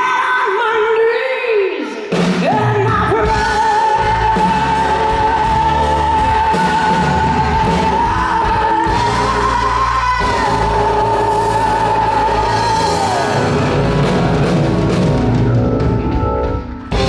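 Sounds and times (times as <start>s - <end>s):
blues-rock band playing loudly: 2.1s - 17.0s.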